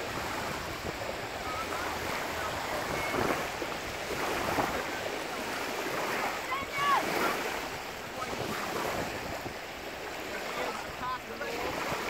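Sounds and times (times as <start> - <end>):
small waves lapping on shore: 0.0 - 12.0
wind buffeting microphone: 0.0 - 12.0.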